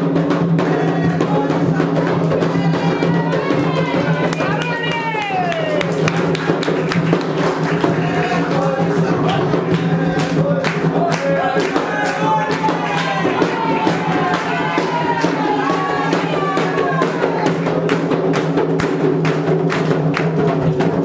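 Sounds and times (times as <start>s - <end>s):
hand drums beating: 0.0s - 21.0s
hands clapping: 4.1s - 21.0s.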